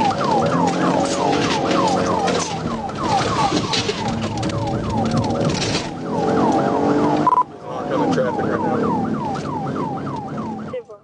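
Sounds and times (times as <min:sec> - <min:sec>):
car engine: 0:00.0 - 0:10.8
police siren yelping: 0:00.0 - 0:11.0
road and wind noise: 0:00.0 - 0:11.0.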